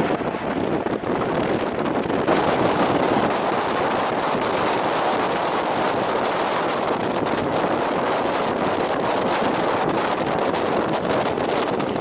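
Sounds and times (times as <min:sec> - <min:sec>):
train wheels rolling on rails: 0:00.0 - 0:12.0
wind rushing over microphone: 0:00.0 - 0:12.0.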